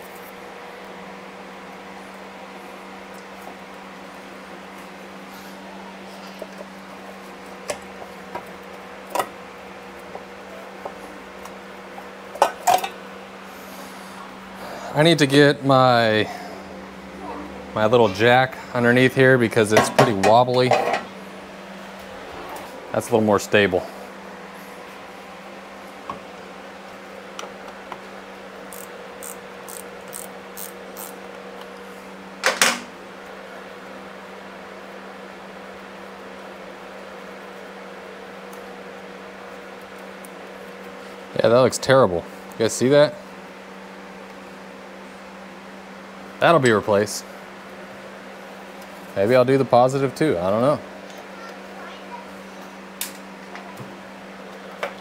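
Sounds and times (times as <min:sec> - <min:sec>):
fan humming: 0:00.0 - 0:55.0.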